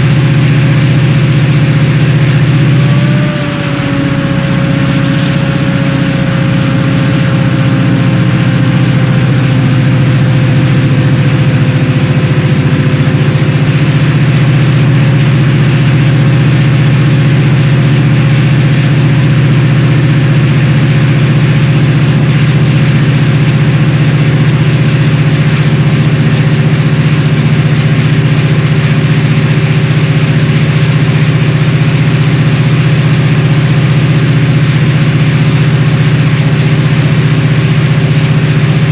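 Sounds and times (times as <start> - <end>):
high engine whine: 0.0 - 38.9
locomotive diesel engine drone: 0.0 - 38.9.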